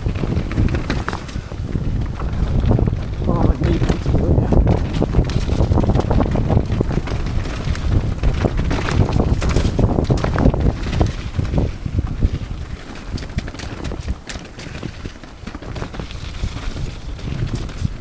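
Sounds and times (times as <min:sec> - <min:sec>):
bike frame rattling: 0:00.0 - 0:18.0
wind buffeting microphone: 0:00.0 - 0:18.0.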